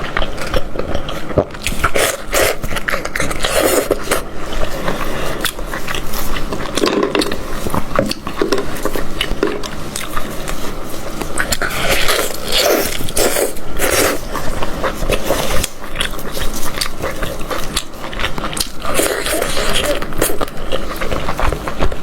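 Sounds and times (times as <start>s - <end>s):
biting and chewing: 0.0s - 22.0s.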